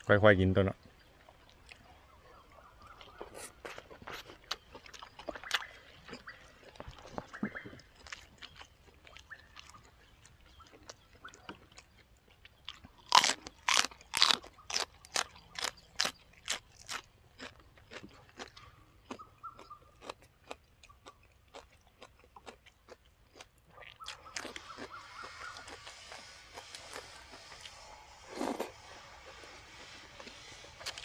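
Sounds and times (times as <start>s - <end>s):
crunchy vegetables being chewed: 1.2s - 31.0s.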